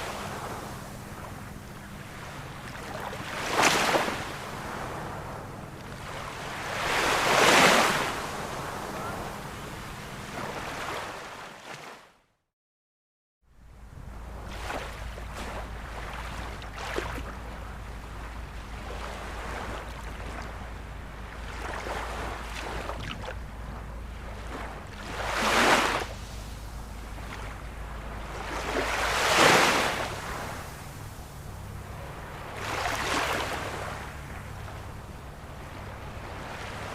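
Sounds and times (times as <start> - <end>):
ocean surf washing: 0.0 - 11.9, 13.7 - 36.9
waves breaking: 0.0 - 12.1, 13.6 - 36.9.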